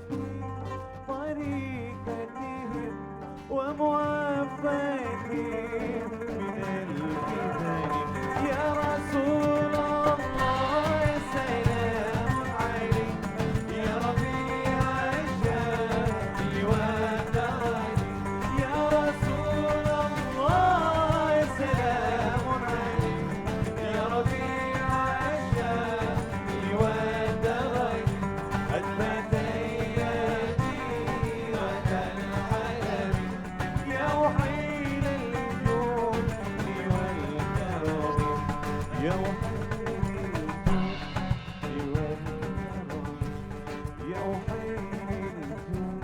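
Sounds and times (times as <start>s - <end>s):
instrumental band music: 6.2s - 46.0s.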